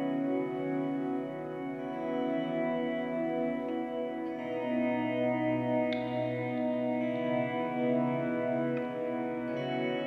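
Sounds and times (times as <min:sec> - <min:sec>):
soft sustained organ chords: 0:00.0 - 0:10.0.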